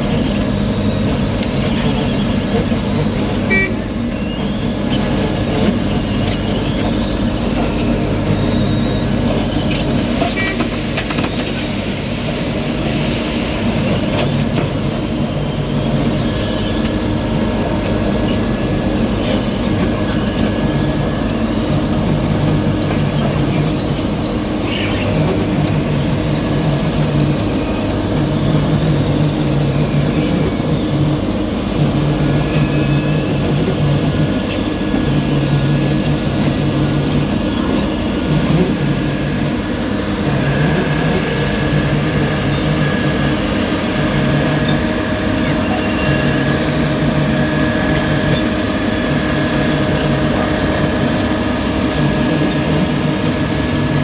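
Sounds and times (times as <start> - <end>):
heavy machinery running under load: 0.0 - 54.0.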